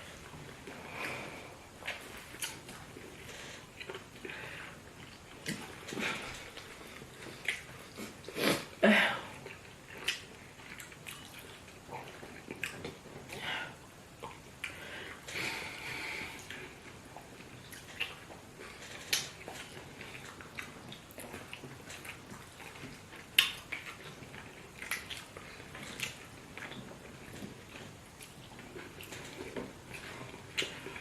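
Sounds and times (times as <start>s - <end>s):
wet mouth eating noises: 0.0s - 13.4s, 16.4s - 31.0s.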